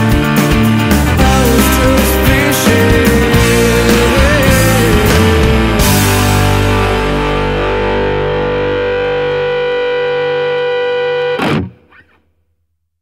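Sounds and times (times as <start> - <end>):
distorted electric guitar chord: 0.0 - 12.3.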